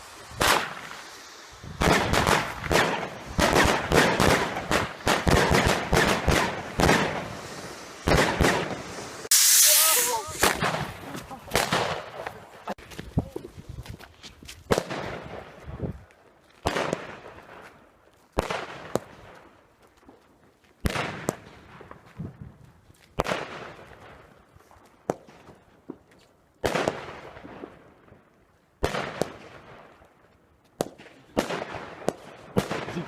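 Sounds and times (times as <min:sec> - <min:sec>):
fireworks banging and crackling: 0:00.0 - 0:33.0.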